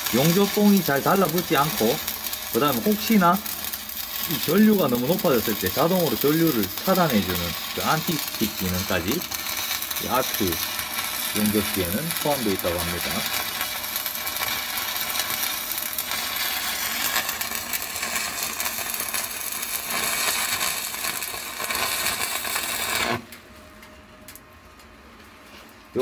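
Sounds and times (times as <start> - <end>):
welding arc crackling: 0.0 - 23.4.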